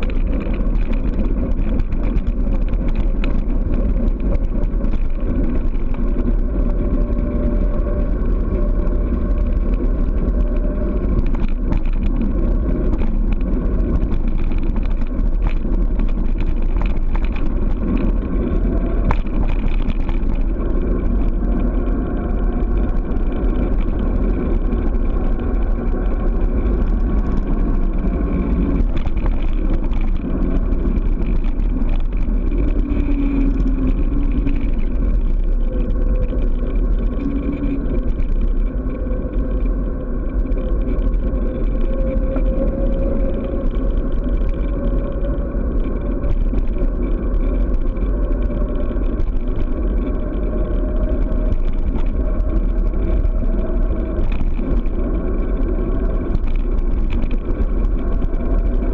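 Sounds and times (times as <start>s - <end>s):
short clicks from road bumps: 0.0s - 58.9s
tyre noise on asphalt: 0.0s - 58.9s
wind rush on microphone: 0.0s - 58.9s.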